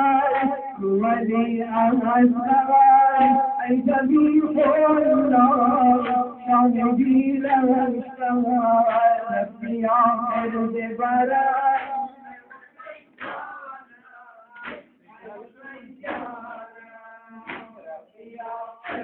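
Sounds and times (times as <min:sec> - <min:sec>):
rhythmic chest-beating slaps: 0:00.0 - 0:01.2, 0:01.8 - 0:19.0
man chanting a lament: 0:00.0 - 0:19.0.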